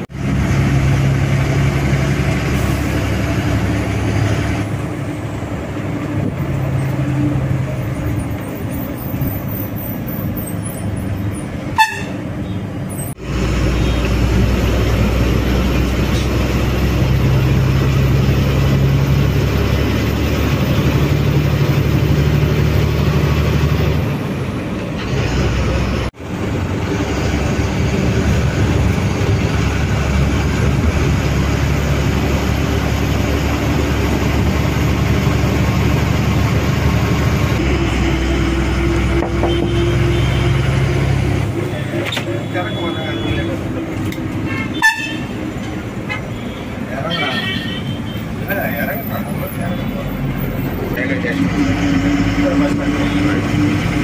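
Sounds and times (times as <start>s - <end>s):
diesel bus engine drone: 0.0s - 47.1s, 48.0s - 54.0s
road noise: 0.0s - 54.0s.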